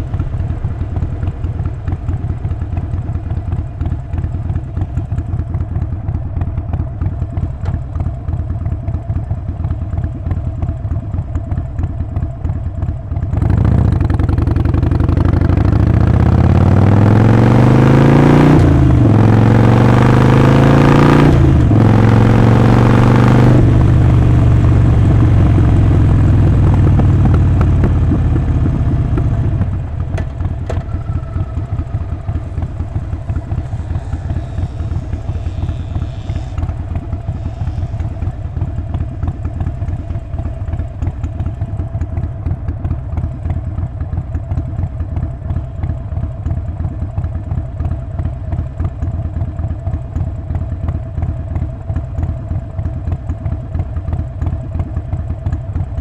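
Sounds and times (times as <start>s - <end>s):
motorcycle engine with loping beat: 0.0s - 56.0s.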